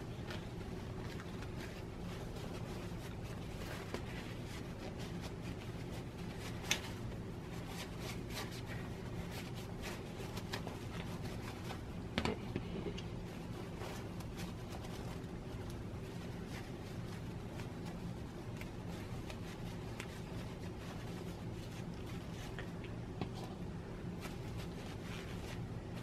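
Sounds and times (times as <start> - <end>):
paper towel crinkling and rubbing: 0.0 - 26.0
steady low hum: 0.0 - 26.0.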